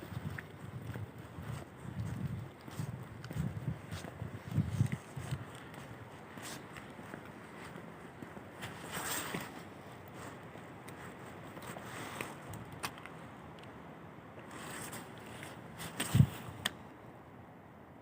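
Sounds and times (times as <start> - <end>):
footsteps on forest path: 0.0 - 13.2, 14.4 - 16.5.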